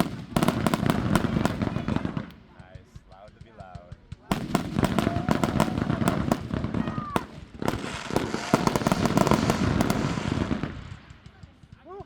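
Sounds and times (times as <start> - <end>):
fireworks crackling pops: 0.0 - 12.0
loud firework bangs: 0.0 - 12.0.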